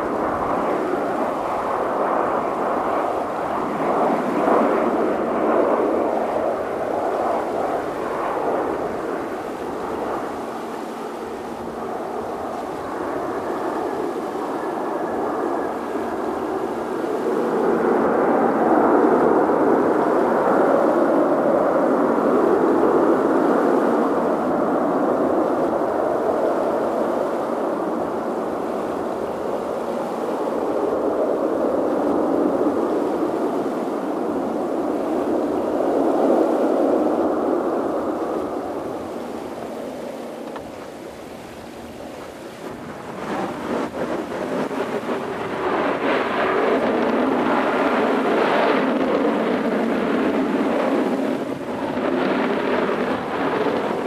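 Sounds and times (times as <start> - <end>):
jet engines rushing drone: 0.0 - 54.0.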